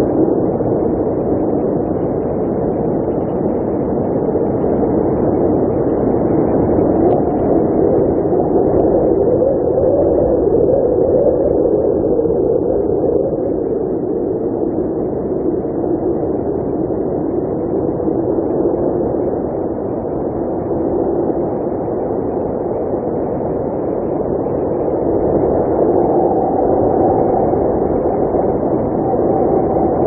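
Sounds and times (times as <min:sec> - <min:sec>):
blizzard wind blowing: 0:00.0 - 0:30.0.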